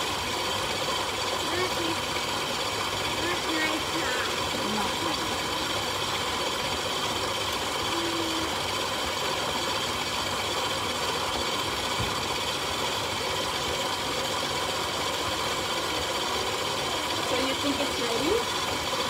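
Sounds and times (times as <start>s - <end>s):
stand mixer motor running: 0.0s - 19.0s.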